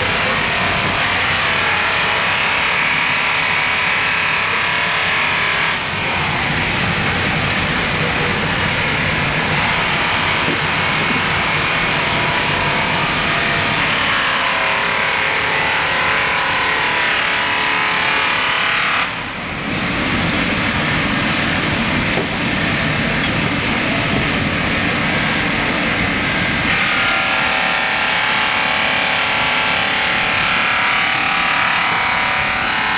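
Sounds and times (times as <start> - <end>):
polishing machine rushing noise: 0.0 - 32.9.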